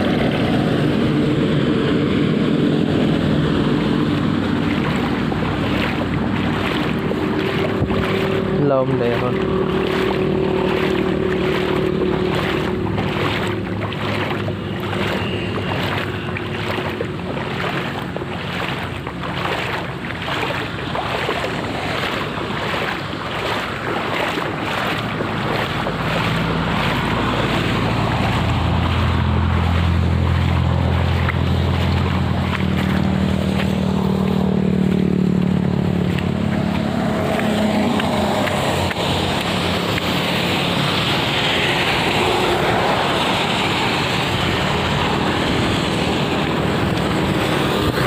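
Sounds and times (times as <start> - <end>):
engine hum: 0.0 - 48.0
footsteps splashing through water: 0.0 - 48.0.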